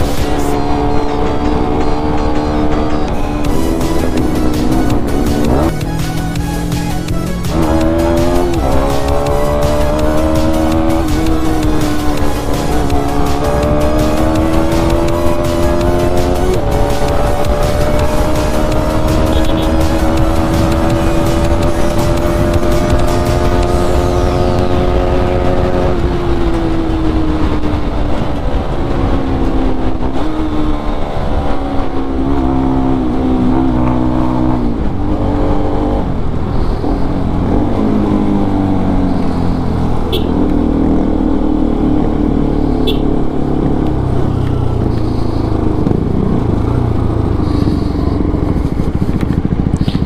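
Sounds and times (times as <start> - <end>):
steady rushing noise: 0.0 - 42.6, 43.2 - 50.0
motorcycle engine running: 0.0 - 50.0.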